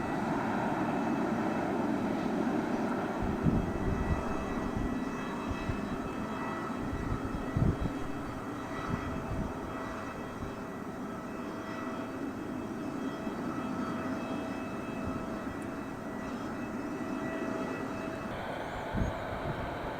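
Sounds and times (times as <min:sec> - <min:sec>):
jet engines rushing and whining: 0:00.0 - 0:19.9.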